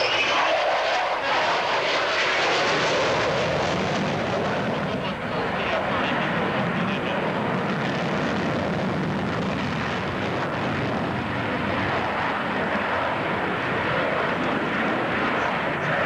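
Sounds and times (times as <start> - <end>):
jet fighter engine rush: 0.0 - 16.0.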